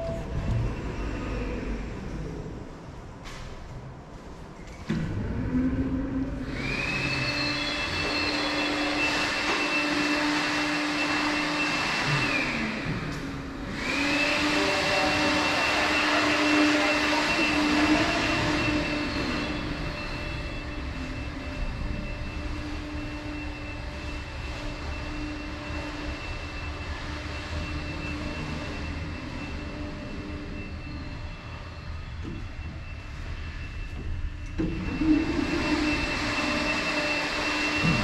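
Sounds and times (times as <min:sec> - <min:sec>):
train running past: 0:00.0 - 0:38.0.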